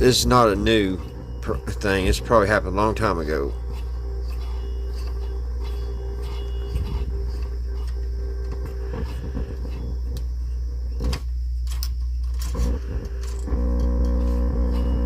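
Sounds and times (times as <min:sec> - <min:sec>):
constant mid-pitched tone: 0:00.0 - 0:15.0
low electrical hum: 0:00.0 - 0:15.0.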